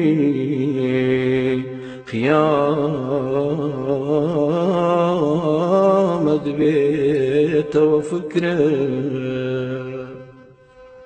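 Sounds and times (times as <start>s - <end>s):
man chanting religious verse: 0.0s - 10.3s.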